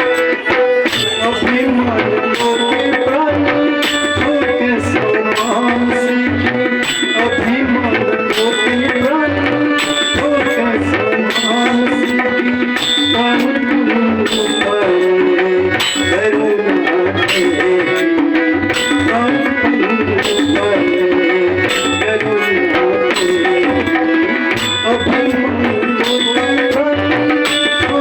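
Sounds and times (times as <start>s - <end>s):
tabla rhythm: 0.0s - 28.0s
wavering melody: 0.0s - 28.0s.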